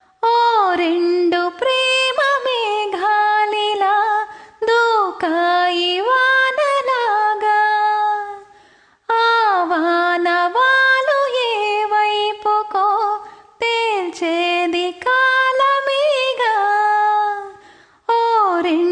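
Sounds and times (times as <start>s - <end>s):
woman singing unaccompanied: 0.2s - 18.9s.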